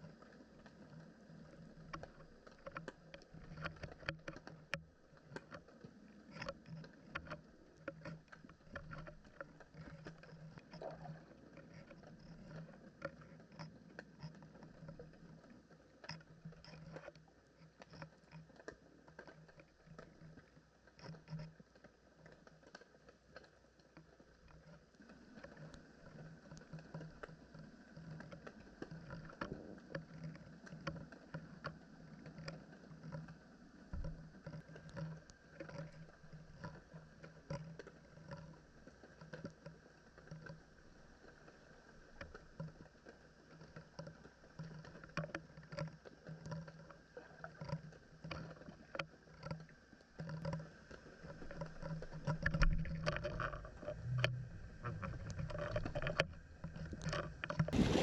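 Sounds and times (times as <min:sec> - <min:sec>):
small ticks and knocks: 0:00.0 - 0:58.0
water lapping against kayak hull: 0:00.0 - 0:58.0.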